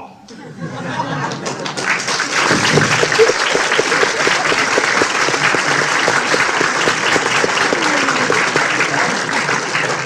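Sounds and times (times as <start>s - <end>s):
large crowd applauding: 1.1s - 10.0s.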